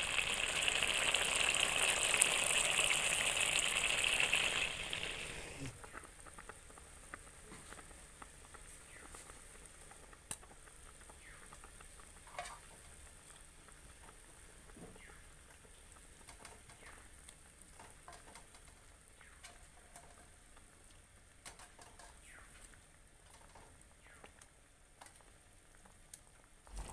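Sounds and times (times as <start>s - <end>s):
curry simmering and sizzling: 0.0s - 26.9s.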